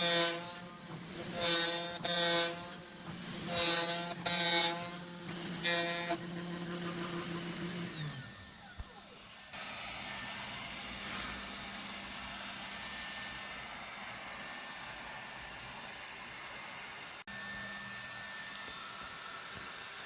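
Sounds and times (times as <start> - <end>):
blower rushing: 0.0 - 20.0.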